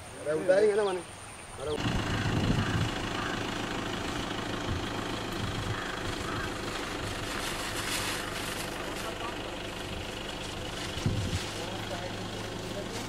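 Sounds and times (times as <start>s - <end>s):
vehicle engine idling: 1.6s - 13.0s.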